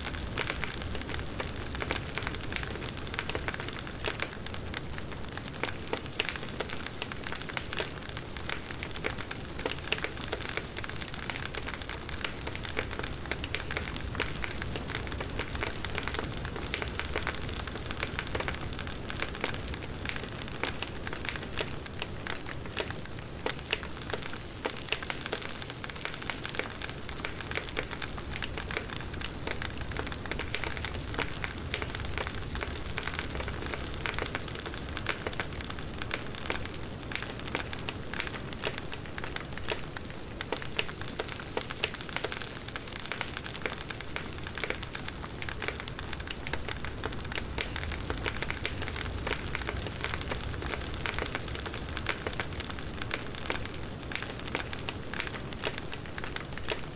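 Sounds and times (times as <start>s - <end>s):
campfire crackling and popping: 0.0s - 56.9s
campfire hiss: 0.0s - 56.9s
low rumble of flames: 0.0s - 56.9s.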